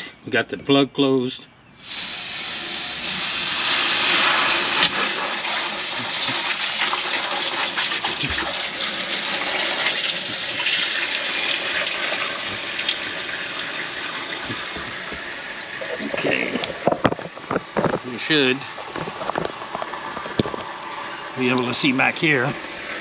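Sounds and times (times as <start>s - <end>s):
water pouring steadily: 2.2s - 23.0s.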